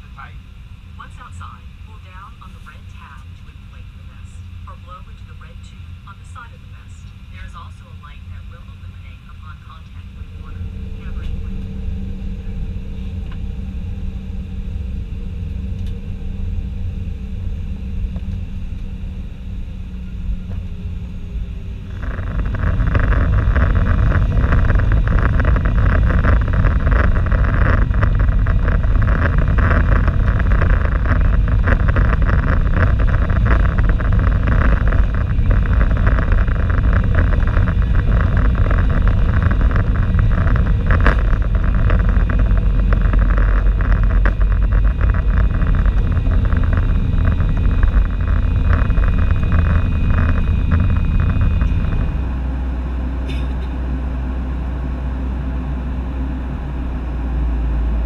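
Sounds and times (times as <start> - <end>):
jet engines rumbling in cabin: 0.0 - 58.0
jet engines spooling up: 6.2 - 58.0.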